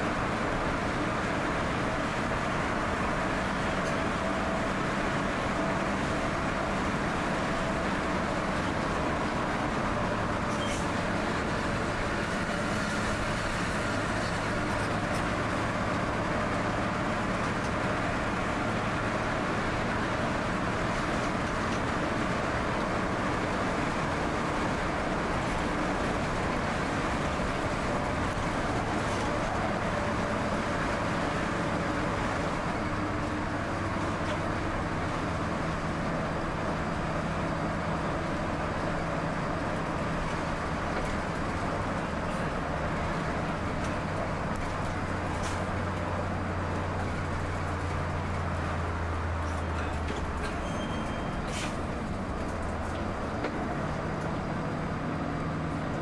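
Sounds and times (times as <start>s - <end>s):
bus engine hum: 0.0s - 56.0s
road noise: 0.0s - 56.0s.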